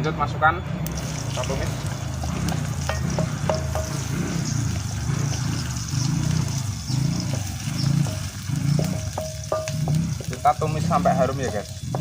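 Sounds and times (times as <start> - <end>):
paste sizzling in a hot pan: 0.8 - 12.0.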